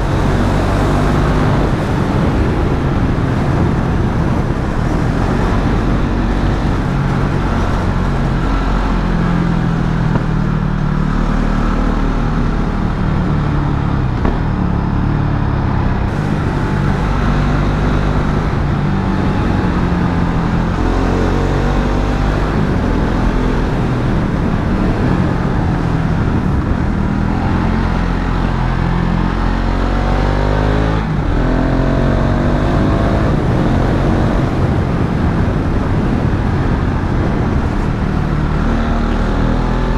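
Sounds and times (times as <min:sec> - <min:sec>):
motorcycle engine revving: 0:00.0 - 0:39.9
wind and road rush: 0:00.0 - 0:39.9.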